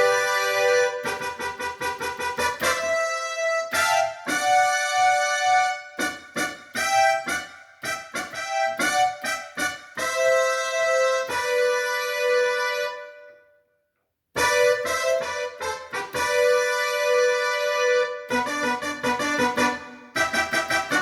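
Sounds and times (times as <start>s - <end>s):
electronic keyboard notes: 0.0s - 13.3s, 14.4s - 21.0s.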